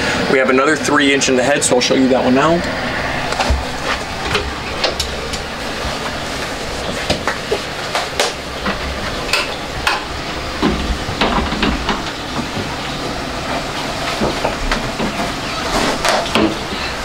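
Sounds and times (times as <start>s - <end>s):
air conditioner rushing hiss: 0.0s - 17.0s.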